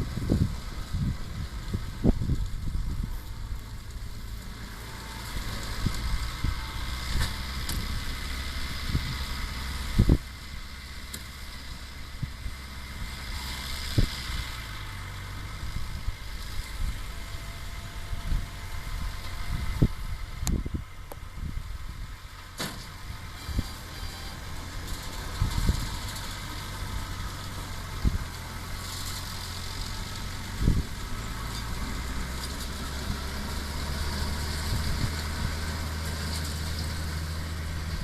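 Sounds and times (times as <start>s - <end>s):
hay baler mechanical clatter: 0.0s - 38.0s
tractor engine running: 0.0s - 38.0s.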